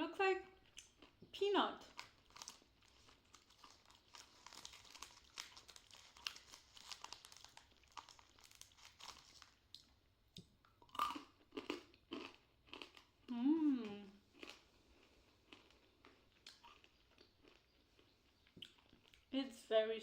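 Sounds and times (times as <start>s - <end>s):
crunchy sweet being chewed: 0.6s - 19.3s.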